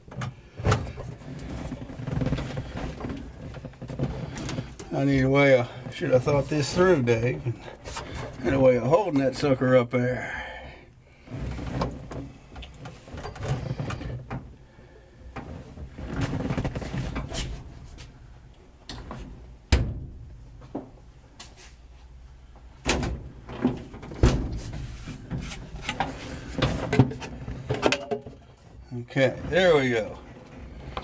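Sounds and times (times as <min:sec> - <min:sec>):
heater unit clunking and scraping: 0:00.0 - 0:10.5, 0:11.1 - 0:31.0.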